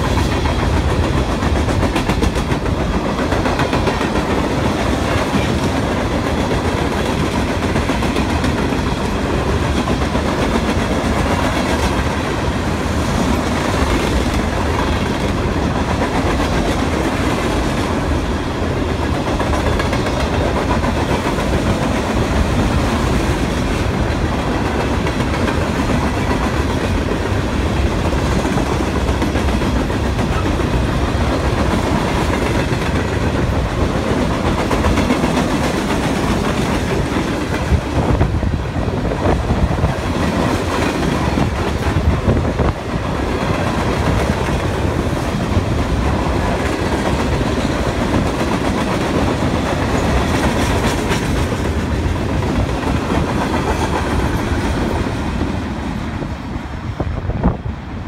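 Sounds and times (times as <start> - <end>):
train cars clanking: 0.0 - 57.7
train wheels rumbling on rails: 0.0 - 58.0.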